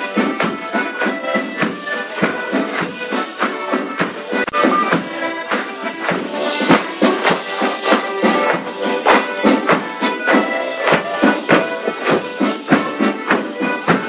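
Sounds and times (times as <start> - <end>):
live band playing folk dance tune: 0.0 - 14.0.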